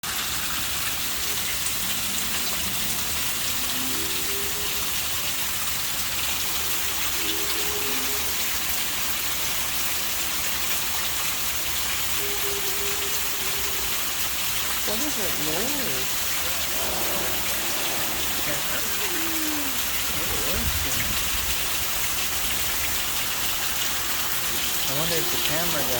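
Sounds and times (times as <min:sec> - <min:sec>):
steady rain-like hiss: 0:00.0 - 0:25.9.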